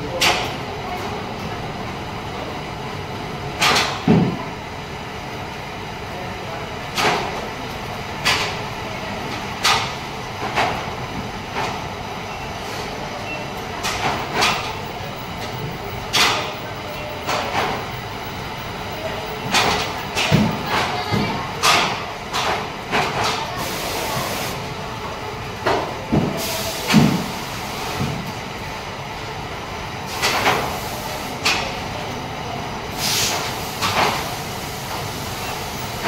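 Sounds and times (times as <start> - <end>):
factory machinery noise: 0.0 - 36.0.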